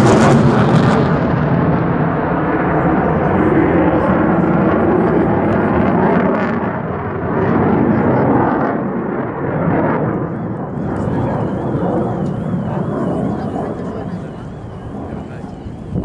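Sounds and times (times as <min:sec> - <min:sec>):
distant jet engine roar: 0:00.0 - 0:16.0.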